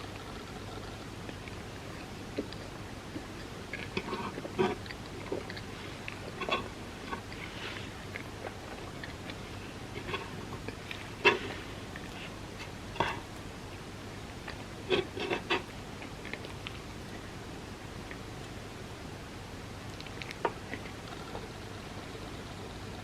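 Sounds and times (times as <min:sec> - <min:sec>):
moist eating clicks and smacks: 0:00.0 - 0:18.9, 0:19.6 - 0:22.8
steady low hiss: 0:00.0 - 0:23.0.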